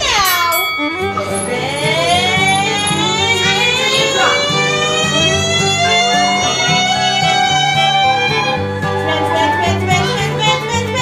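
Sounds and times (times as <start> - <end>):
music with long held notes: 0.0 - 11.0
bass line: 0.9 - 11.0.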